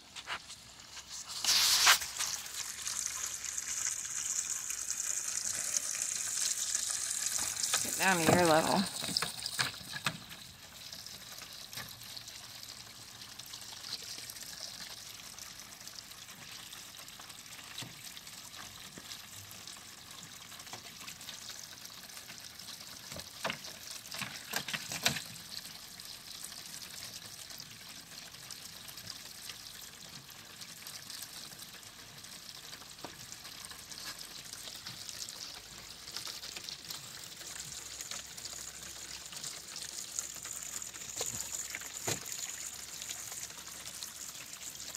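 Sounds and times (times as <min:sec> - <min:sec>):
hose water running into pool: 0:00.0 - 0:44.9.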